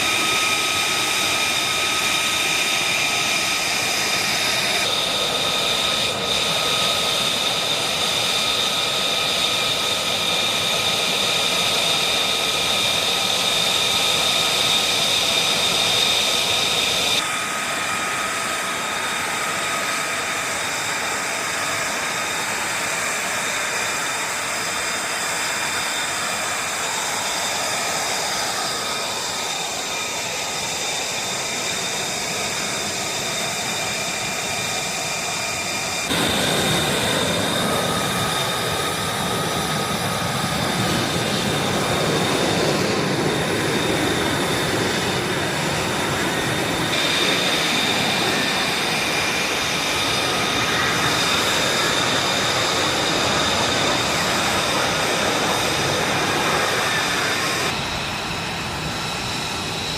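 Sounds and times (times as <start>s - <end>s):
jet engine rush and whine: 0.0s - 59.9s.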